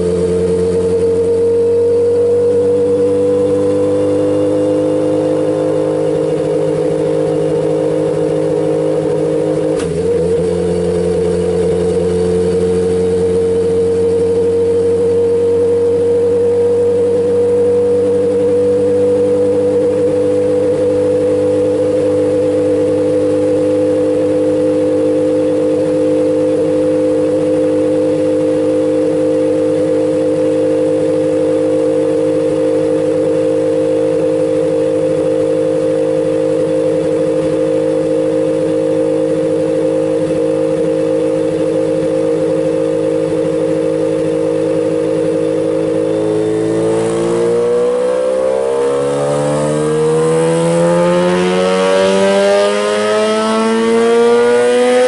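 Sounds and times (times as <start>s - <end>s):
race car engine running steadily: 0.0s - 55.0s.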